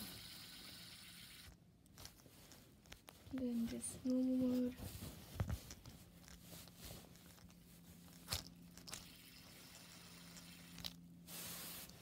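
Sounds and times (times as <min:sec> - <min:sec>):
faint low hum: 0:00.0 - 0:12.0
fidget spinner rubbing against bedding: 0:00.0 - 0:12.0.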